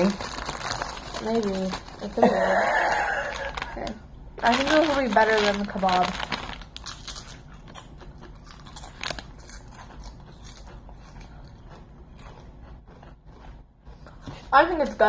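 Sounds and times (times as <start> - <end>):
chips crunching and chewing: 0.0 - 15.0.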